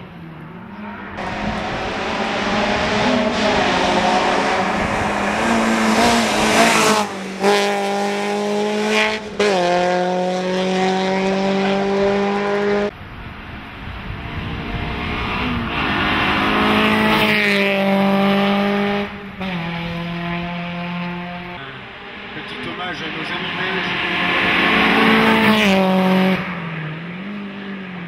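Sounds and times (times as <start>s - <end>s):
car engine revving high: 0.0s - 12.9s, 14.2s - 28.0s.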